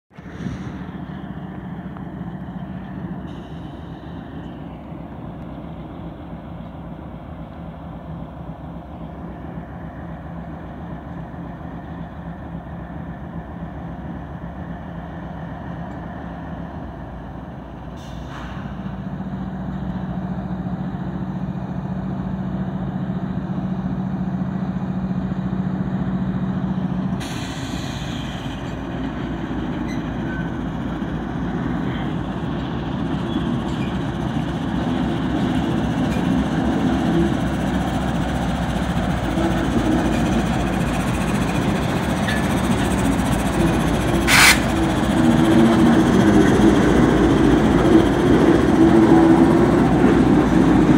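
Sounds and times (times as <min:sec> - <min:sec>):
diesel locomotives droning: 0:00.1 - 0:50.9.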